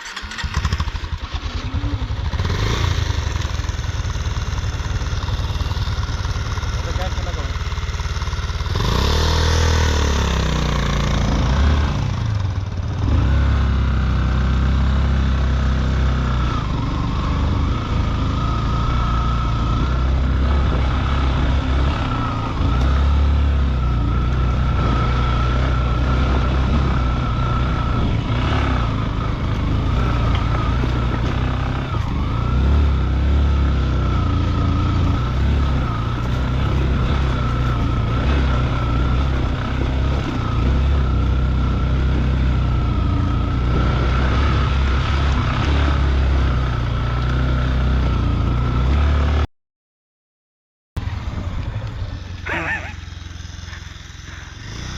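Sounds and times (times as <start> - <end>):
motorcycle engine running: 0.0 - 49.5, 51.0 - 54.9.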